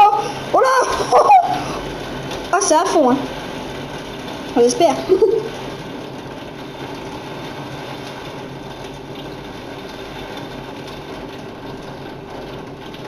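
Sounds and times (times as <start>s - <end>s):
rain drumming on a window: 0.0s - 13.0s.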